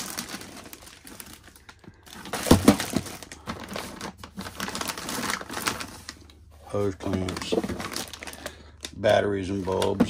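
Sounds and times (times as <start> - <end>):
rummaging through plastic packets: 0.0 - 10.0.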